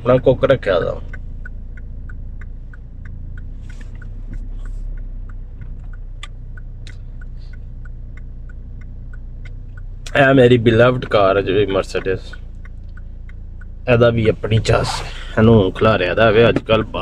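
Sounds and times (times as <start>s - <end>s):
car engine idling: 0.0s - 17.0s
turn signal ticking: 0.0s - 17.0s.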